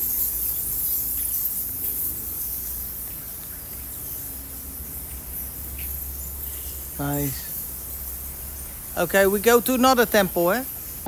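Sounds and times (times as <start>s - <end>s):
high-pitched wildlife chirring: 0.0s - 11.0s.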